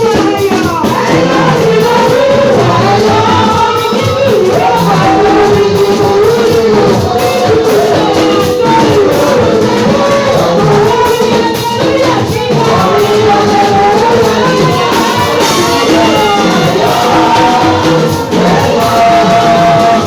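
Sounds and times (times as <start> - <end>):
drums: 0.0 - 20.0
worship music with singing: 0.0 - 20.0.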